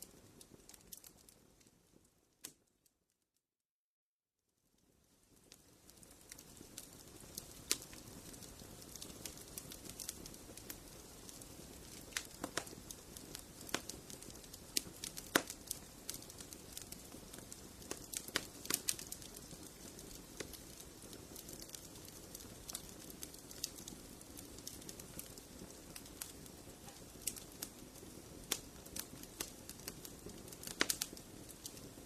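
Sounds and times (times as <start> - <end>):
soft steady hiss: 0.0 - 2.7, 4.5 - 32.0
fire crackling and popping: 0.0 - 2.8, 4.8 - 32.0.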